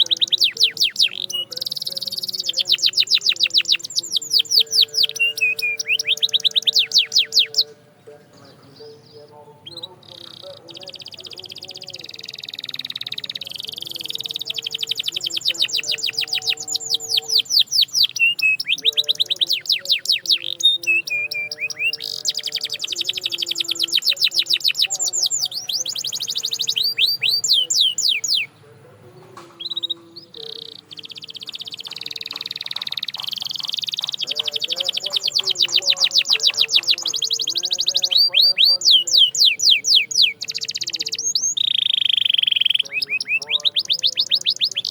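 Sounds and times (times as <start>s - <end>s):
canary singing in trills: 0.0s - 44.9s.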